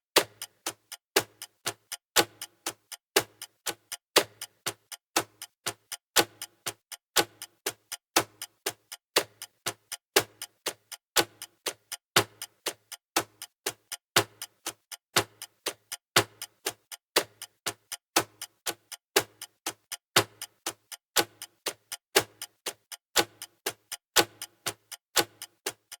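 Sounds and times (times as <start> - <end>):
clock ticking: 0.2 - 26.0.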